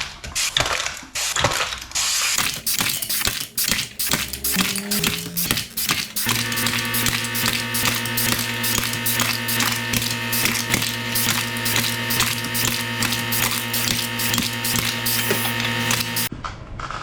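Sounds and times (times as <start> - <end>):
can crusher clattering: 2.4 - 16.3
steady hum: 2.4 - 16.3.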